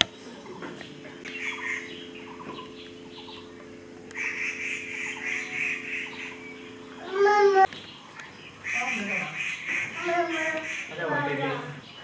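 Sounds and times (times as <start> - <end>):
birds chirping: 0.0 - 12.0
steady low hum: 0.0 - 12.0
bird trill: 1.2 - 11.1.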